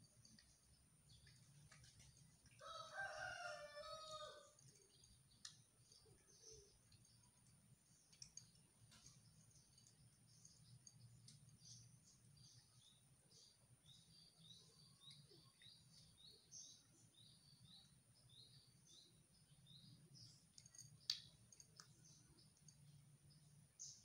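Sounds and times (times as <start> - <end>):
faint bird chirps: 2.6 - 24.0.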